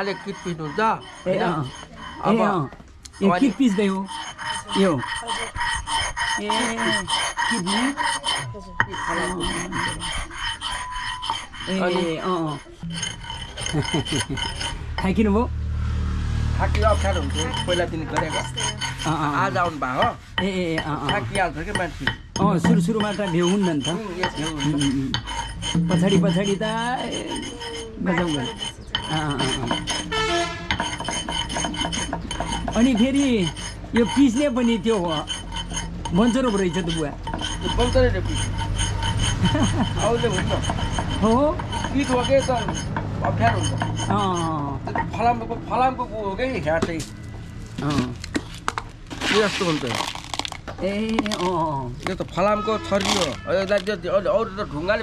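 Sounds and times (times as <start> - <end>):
iron blade scraping on stone: 0.0 - 15.4, 16.7 - 55.0.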